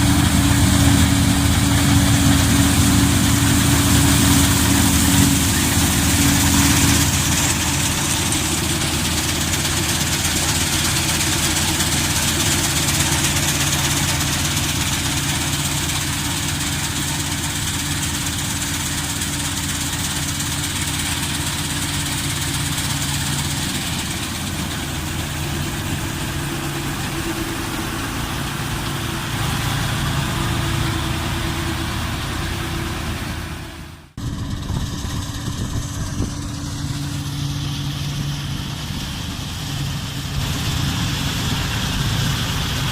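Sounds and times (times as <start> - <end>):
combine harvester engine drone: 0.0 - 42.9.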